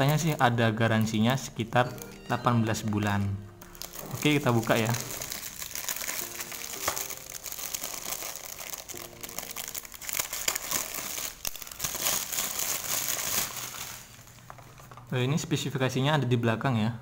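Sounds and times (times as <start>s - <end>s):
plastic wrapping crinkling: 0.0s - 15.2s.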